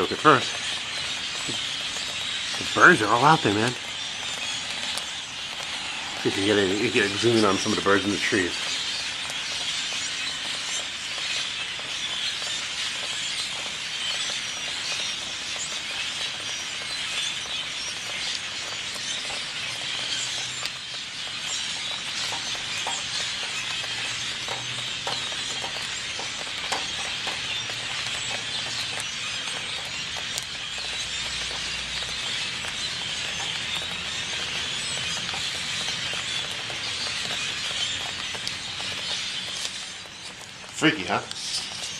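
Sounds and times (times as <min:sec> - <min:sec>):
flock of birds screeching: 0:00.0 - 0:41.9.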